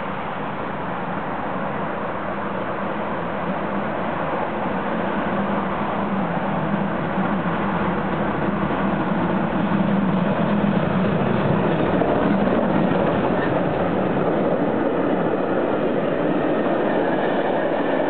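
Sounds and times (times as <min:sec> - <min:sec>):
motorway traffic hum: 0:00.0 - 0:18.0
steam locomotive passing: 0:00.0 - 0:18.0
train coaches rolling on rails: 0:00.0 - 0:18.0.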